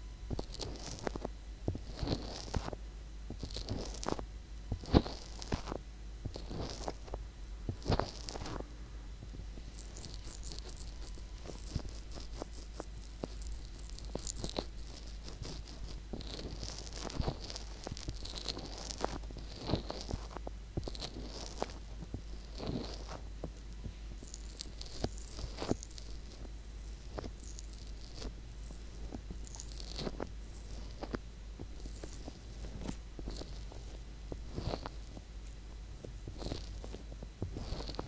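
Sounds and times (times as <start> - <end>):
crackles and soft clicks: 0.0 - 38.0
fingertips rubbing microphone ear: 0.3 - 8.6, 9.6 - 23.2, 24.2 - 35.2, 36.3 - 38.0.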